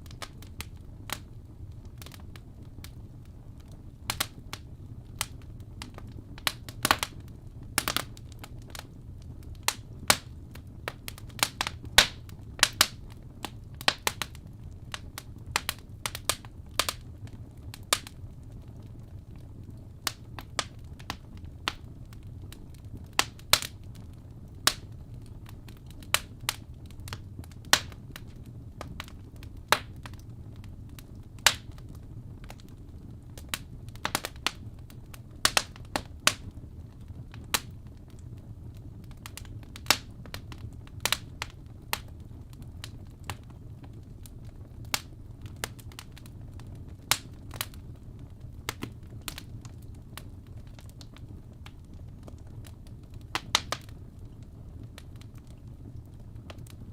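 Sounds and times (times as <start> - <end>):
low steady rumble: 0.0 - 56.9
wood fire crackling: 0.0 - 56.9.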